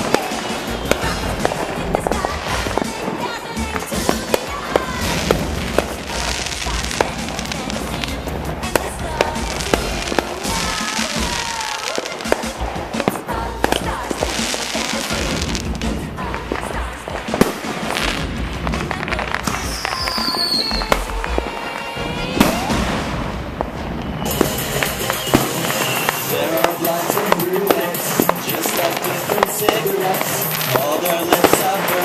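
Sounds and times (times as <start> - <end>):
falling firework whistle: 0.0 - 8.1, 8.7 - 16.1, 19.4 - 32.0
fireworks bangs and crackles: 0.0 - 32.0.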